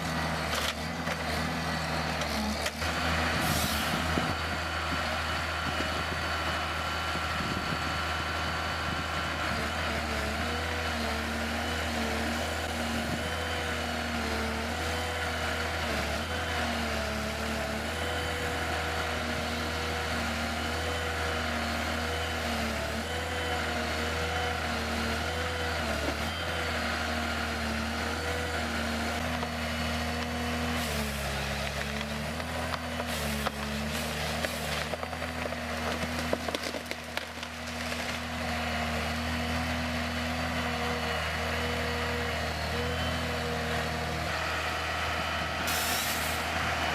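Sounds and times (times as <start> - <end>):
heavy machine engine running: 0.0 - 46.9.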